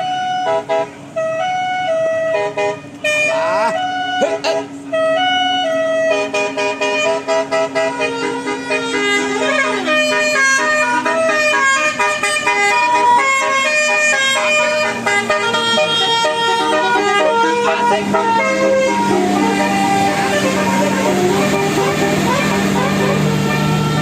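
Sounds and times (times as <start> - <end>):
electric trumpet horns playing tune: 0.0 - 24.0.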